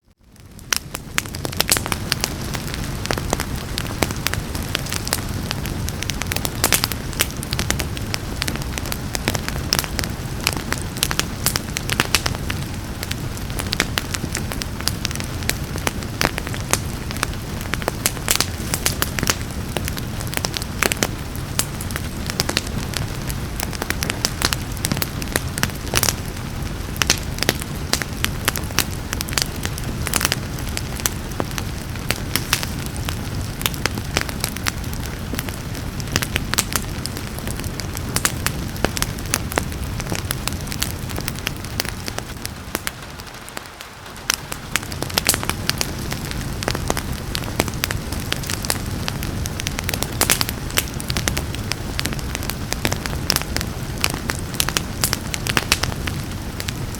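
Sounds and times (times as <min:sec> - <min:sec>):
wood fire crackling and popping: 0:00.1 - 0:56.9
rain falling: 0:00.3 - 0:56.9.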